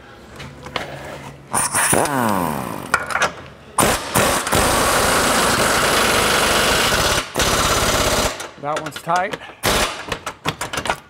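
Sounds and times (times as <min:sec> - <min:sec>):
impact wrench hammering: 0:01.6 - 0:11.0.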